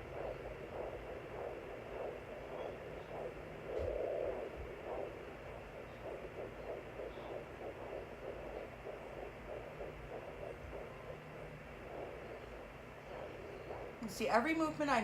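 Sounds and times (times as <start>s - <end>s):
fetal heartbeat pulses: 0.0s - 15.0s.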